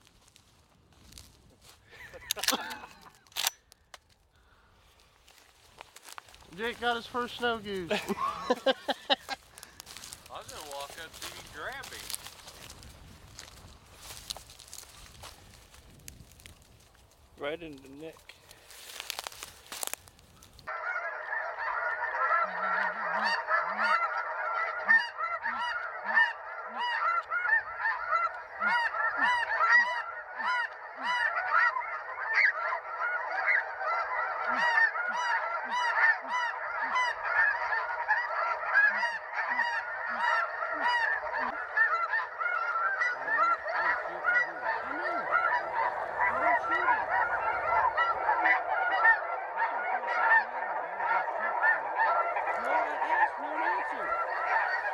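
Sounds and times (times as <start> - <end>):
geese honking in flight: 5.3 - 15.8, 20.6 - 54.9.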